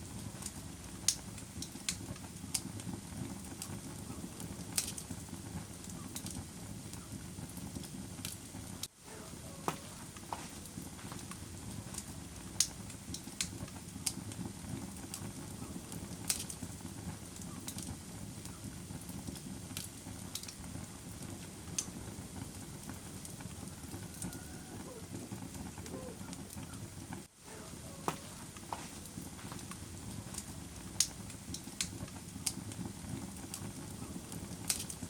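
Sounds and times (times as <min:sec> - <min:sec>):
fire crackling and popping: 0:00.0 - 0:35.0
flames rumbling: 0:00.0 - 0:35.0.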